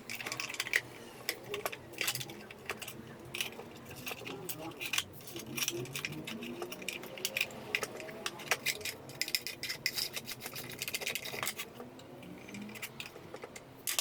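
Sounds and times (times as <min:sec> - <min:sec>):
tools and parts clicking: 0:00.0 - 0:14.0.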